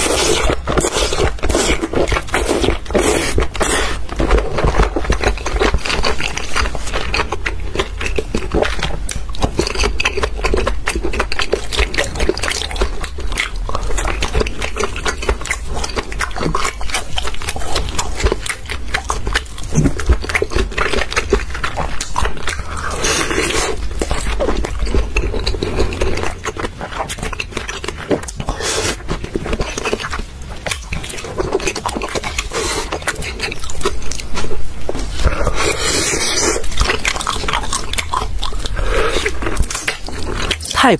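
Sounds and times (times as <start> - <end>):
person chewing wet food: 0.0 - 40.8
mouth clicks and slurps: 0.0 - 40.9.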